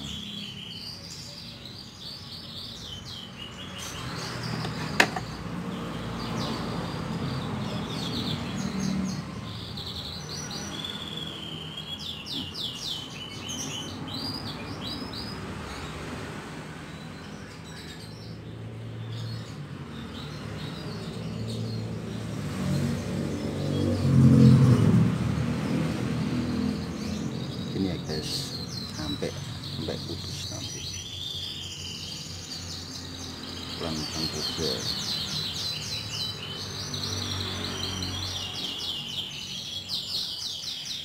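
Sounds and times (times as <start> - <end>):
canaries chirping: 0.0 - 41.0.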